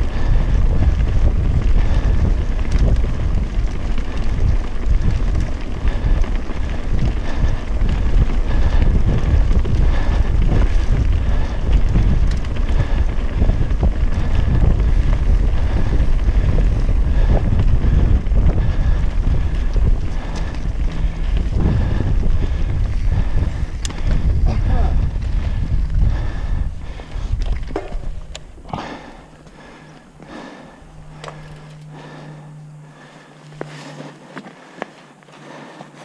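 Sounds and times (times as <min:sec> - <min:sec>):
wind buffeting microphone: 0:00.0 - 0:34.7.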